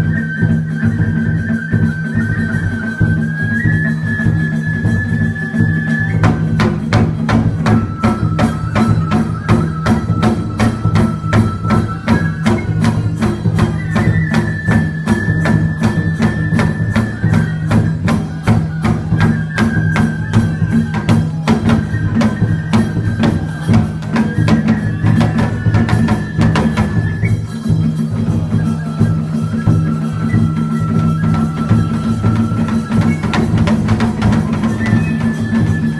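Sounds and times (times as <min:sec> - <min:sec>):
bamboo flute long notes: 0:00.0 - 0:35.9
rapid percussion strokes: 0:00.0 - 0:35.9.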